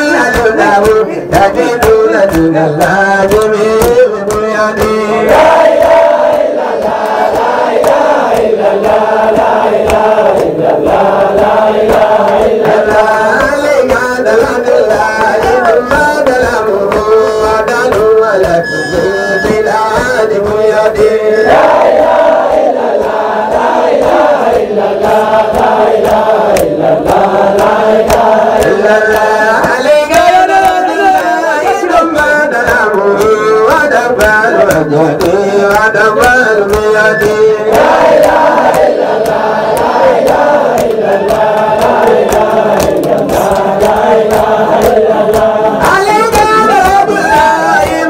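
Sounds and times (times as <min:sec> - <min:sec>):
men chanting together: 0:00.0 - 0:48.0
steady beat of sharp strokes: 0:00.0 - 0:48.0.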